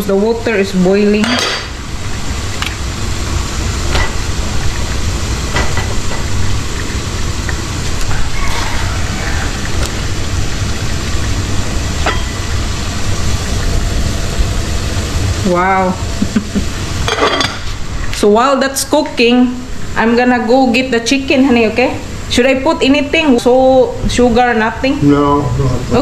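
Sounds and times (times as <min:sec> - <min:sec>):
water boiling in a pot: 0:00.0 - 0:25.0.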